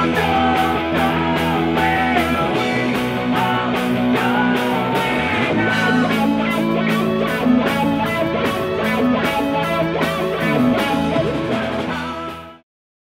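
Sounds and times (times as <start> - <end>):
rock band playing: 0.0 - 12.6.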